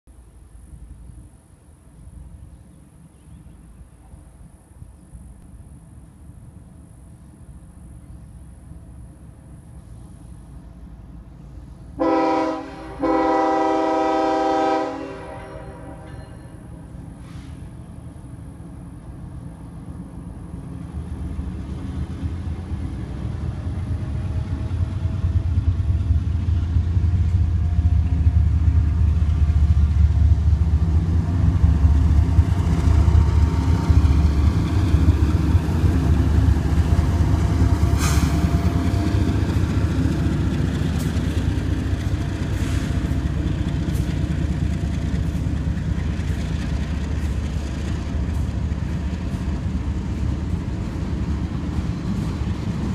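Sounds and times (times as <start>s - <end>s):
diesel locomotive engines rumbling: 0.1s - 52.9s.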